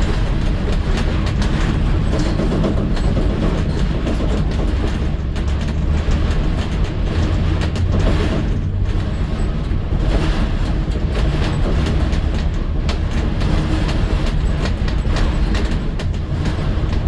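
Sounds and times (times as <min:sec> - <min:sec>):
short rattles and clicks: 0:00.0 - 0:17.0
vehicle rumbling on road: 0:00.0 - 0:17.0.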